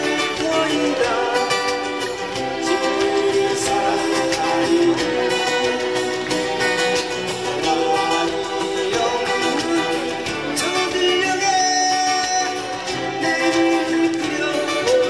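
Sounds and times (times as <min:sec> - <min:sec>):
man singing through microphone: 0:00.0 - 0:05.9, 0:07.5 - 0:15.0
second guitar: 0:00.0 - 0:15.0
strummed acoustic guitar: 0:00.0 - 0:15.0.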